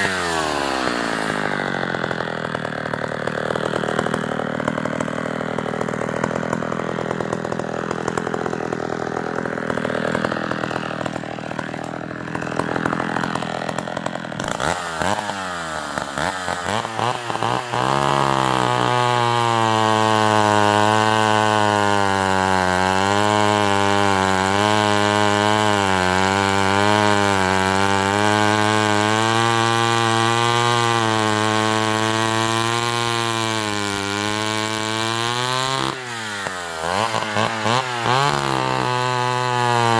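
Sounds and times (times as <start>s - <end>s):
chainsaw running and revving: 0.0s - 39.9s.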